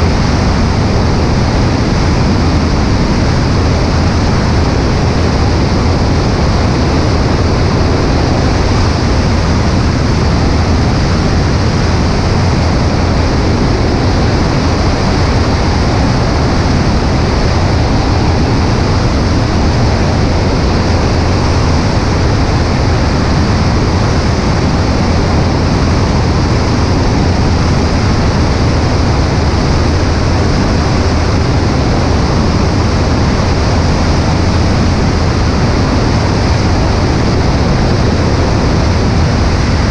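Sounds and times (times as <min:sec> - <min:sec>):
aircraft engine droning: 0:00.0 - 0:39.9
wind rushing over microphone: 0:00.0 - 0:39.9.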